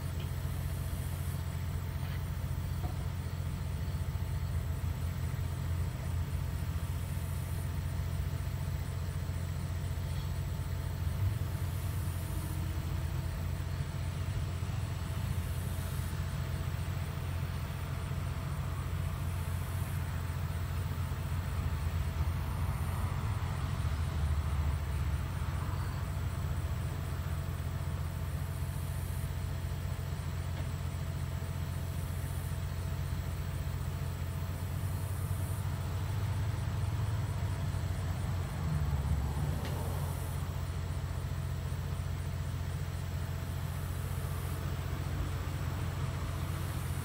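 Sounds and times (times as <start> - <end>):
truck engine idling: 0.0 - 47.0.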